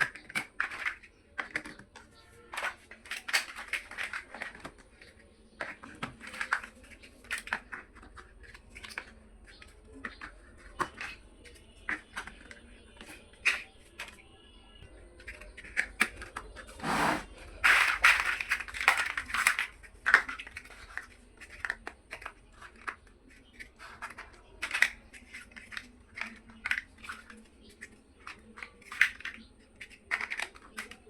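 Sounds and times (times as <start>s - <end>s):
plastic building bricks clicking: 0.0s - 14.3s, 15.2s - 31.0s.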